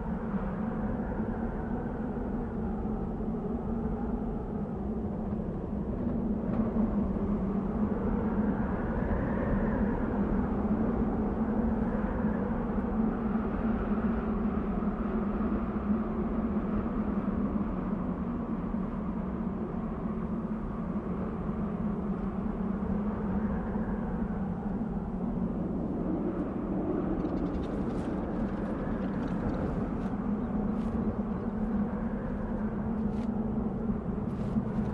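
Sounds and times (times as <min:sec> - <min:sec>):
wind blowing and whistling: 0:00.0 - 0:34.9.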